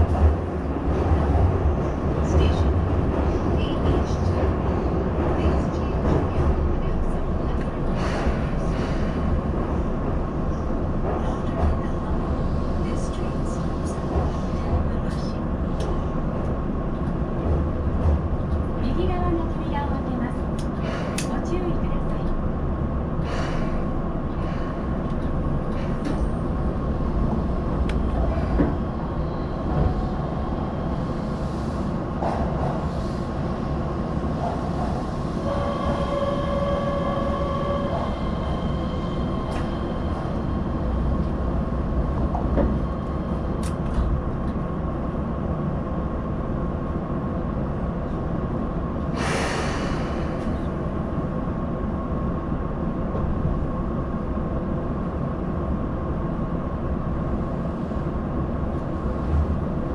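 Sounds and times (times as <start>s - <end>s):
train rumble on rails: 0.0s - 59.9s.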